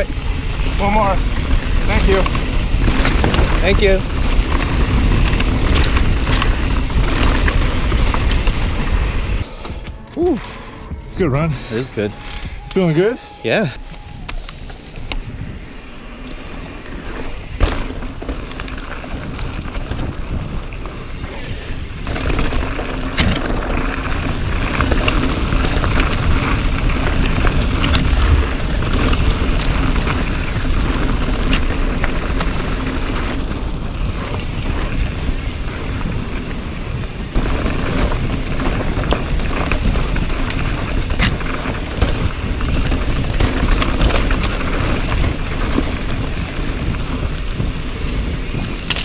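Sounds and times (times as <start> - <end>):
bike clicking and knocking: 0.0 - 9.5, 16.2 - 21.2, 22.0 - 49.0
tyres rumbling on dirt: 0.0 - 49.0
wind buffeting microphone: 0.0 - 49.0.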